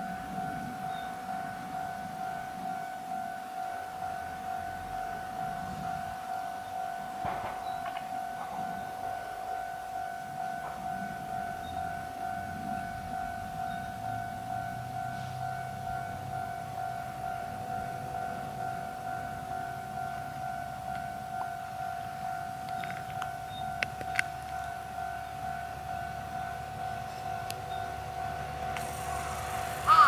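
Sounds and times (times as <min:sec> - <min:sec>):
diesel railcar rumble: 0:00.0 - 0:30.0
level crossing alarm ringing: 0:00.0 - 0:30.0.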